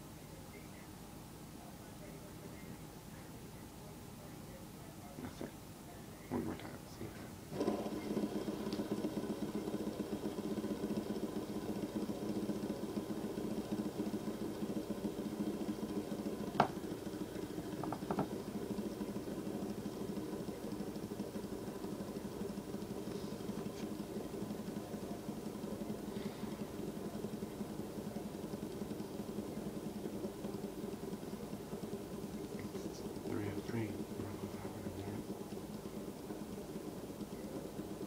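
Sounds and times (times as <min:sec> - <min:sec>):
fidget spinner whirring: 0:01.9 - 0:38.0.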